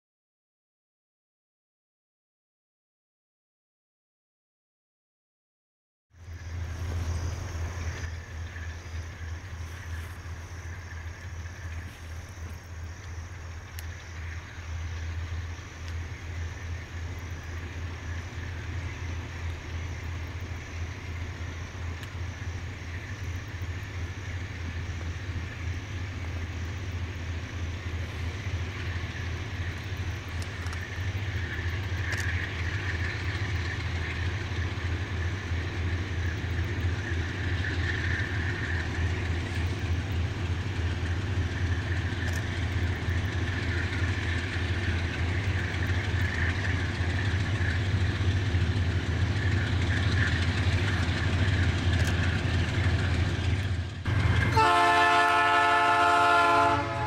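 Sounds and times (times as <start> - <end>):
locomotive engine drone: 6.1 - 57.0.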